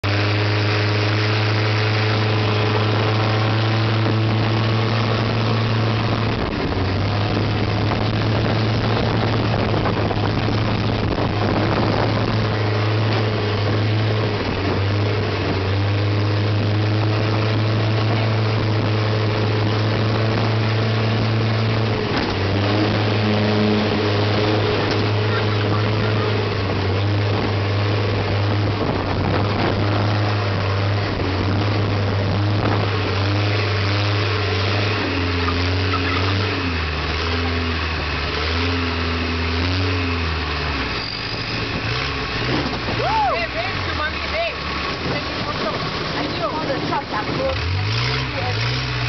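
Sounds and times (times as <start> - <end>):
boat engine droning: 0.0 - 49.0
water and wind rushing: 0.0 - 49.0.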